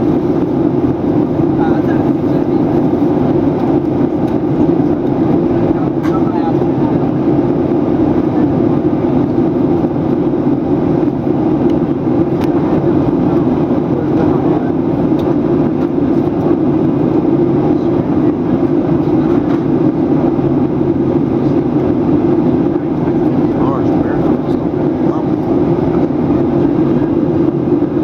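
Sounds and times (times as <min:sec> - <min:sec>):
airplane cabin engine rush: 0:00.0 - 0:28.0.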